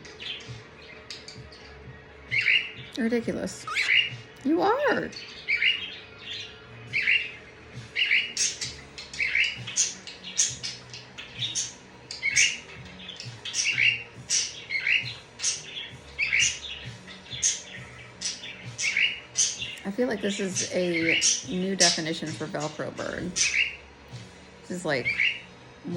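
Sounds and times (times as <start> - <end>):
parrot squawking: 2.3 - 23.8, 24.8 - 25.5.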